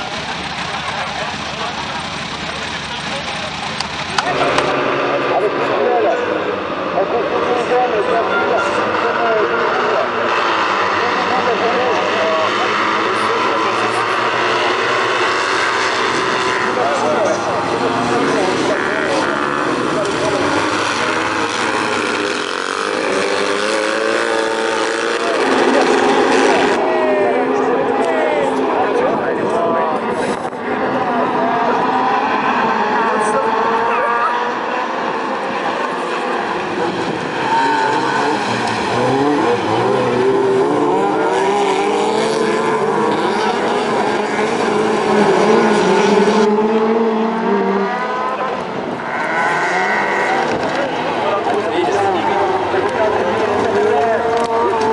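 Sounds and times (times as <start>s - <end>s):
buggy engines revving hard: 0.0s - 54.9s.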